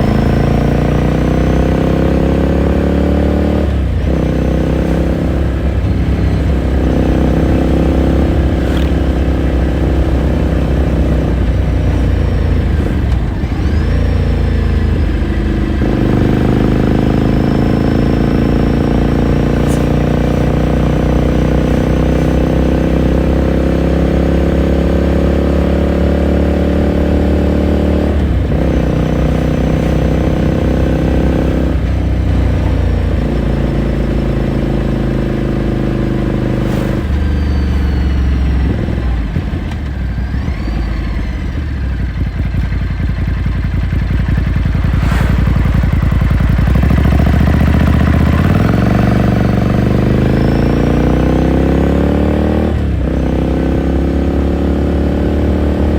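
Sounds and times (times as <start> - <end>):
motorcycle engine revving with gear shifts: 0.0 - 55.9.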